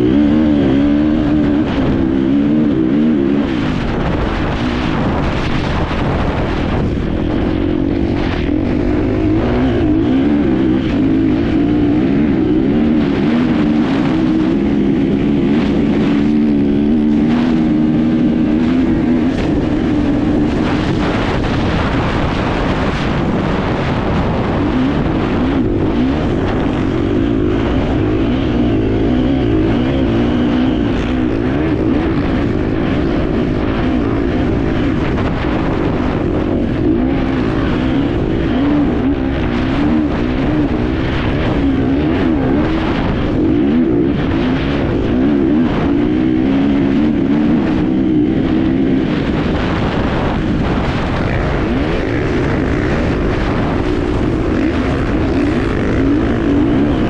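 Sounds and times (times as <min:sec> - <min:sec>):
motorcycle engine revving: 0:00.0 - 0:57.0
rushing wind noise: 0:00.0 - 0:57.0.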